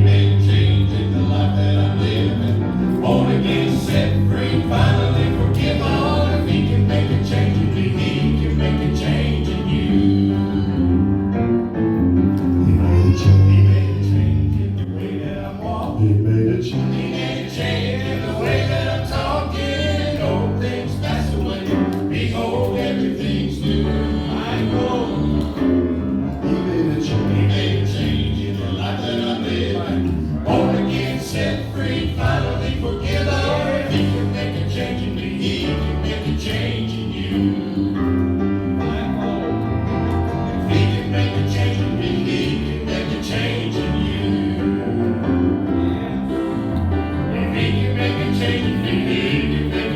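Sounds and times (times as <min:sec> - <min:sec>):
gospel group singing: 0:00.0 - 0:49.9
steady bass line: 0:00.0 - 0:49.9.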